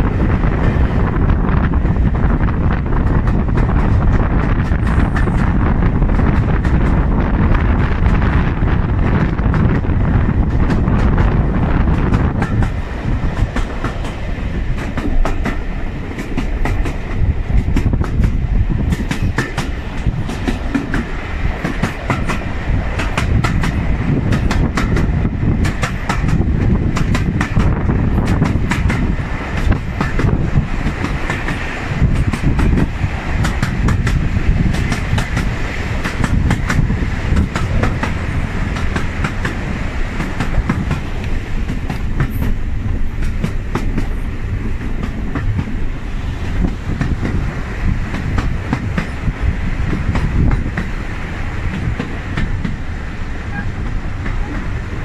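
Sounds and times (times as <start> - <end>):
train wheels clickety-clack: 0.0 - 55.0
wind on microphone: 0.0 - 55.0.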